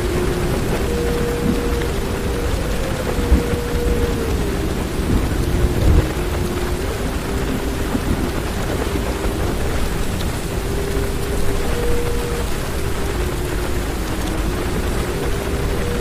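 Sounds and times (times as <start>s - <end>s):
heavy rain on car roof: 0.0s - 16.0s
thunder rumble: 0.0s - 16.0s.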